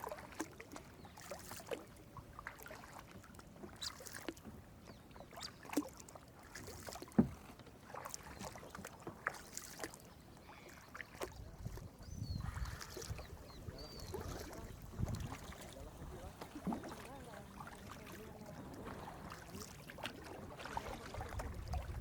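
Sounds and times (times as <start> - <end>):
paddle splashes and drips: 0.0 - 22.0.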